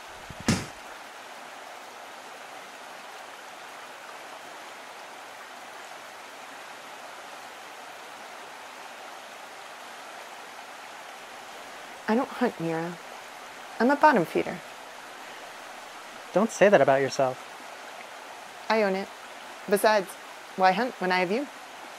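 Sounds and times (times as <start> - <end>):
stream running: 0.0 - 21.9.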